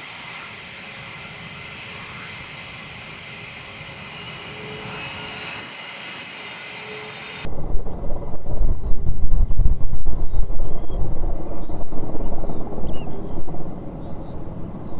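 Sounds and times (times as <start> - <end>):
jet engines whining: 0.0 - 14.9.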